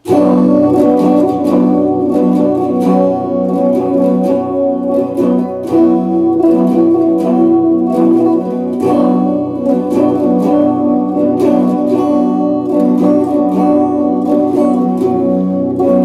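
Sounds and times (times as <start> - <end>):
electric guitar picking chords: 0.0 - 16.0.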